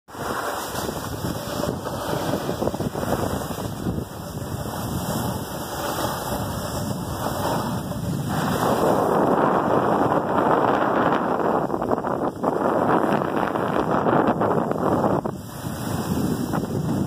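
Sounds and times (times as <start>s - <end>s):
snowboard scraping on snow: 0.1s - 17.0s
wind buffeting microphone: 0.1s - 17.0s.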